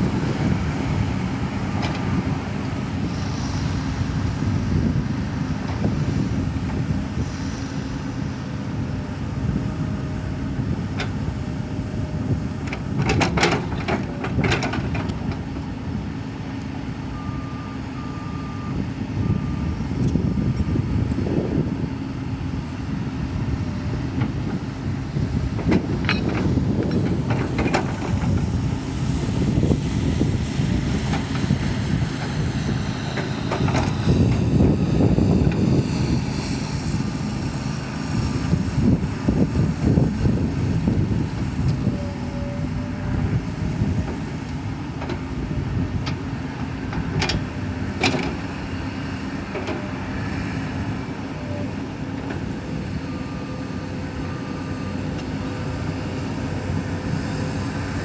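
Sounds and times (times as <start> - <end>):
excavator diesel engine working: 0.0 - 58.0.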